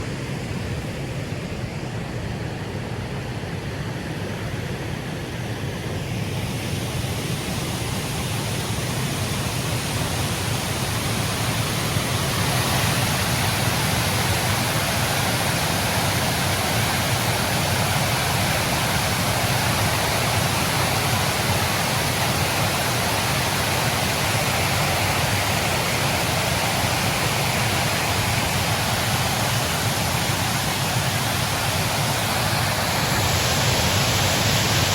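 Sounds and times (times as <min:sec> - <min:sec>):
snowstorm wind rushing: 0:05.2 - 0:34.9.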